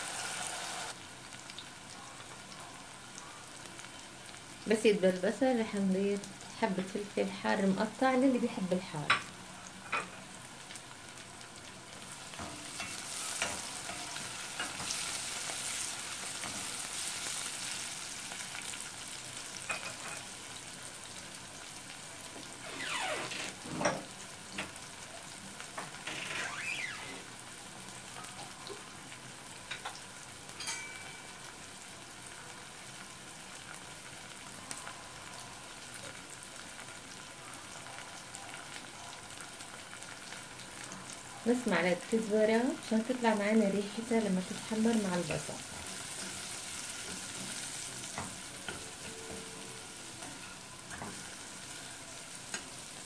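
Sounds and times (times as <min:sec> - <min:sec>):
onions sizzling in oil: 0:00.0 - 0:53.0.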